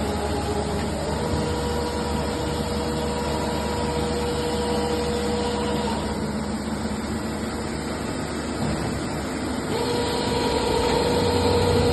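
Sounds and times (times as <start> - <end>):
milling machine humming: 0.0 - 11.9.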